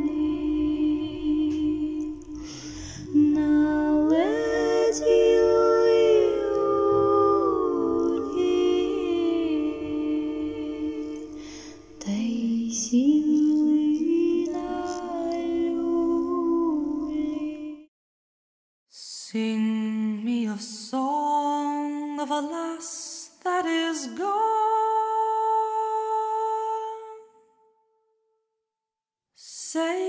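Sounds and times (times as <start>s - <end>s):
wordless singing voice: 0.0s - 17.9s, 19.0s - 27.4s, 29.4s - 30.0s.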